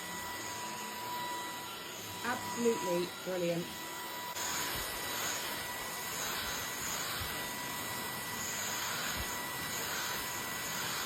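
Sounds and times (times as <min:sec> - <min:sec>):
stick vacuum cleaner running: 0:00.0 - 0:11.0.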